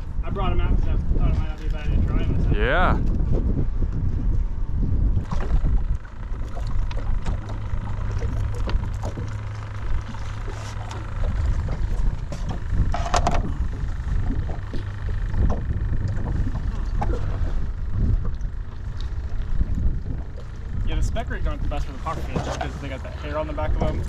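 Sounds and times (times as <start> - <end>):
wind and water around boat: 0.0 - 24.0.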